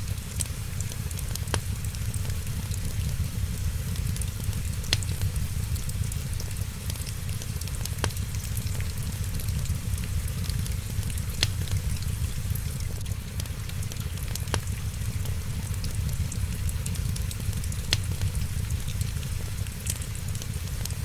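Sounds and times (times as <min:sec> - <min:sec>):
fire popping: 0:00.0 - 0:21.0
wood fire crackling: 0:00.0 - 0:21.0.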